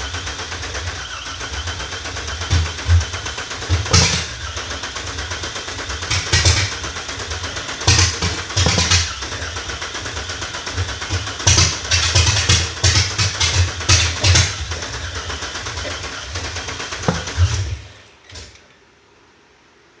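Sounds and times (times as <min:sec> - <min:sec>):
engine idling with throttle blips: 0:00.0 - 0:18.6.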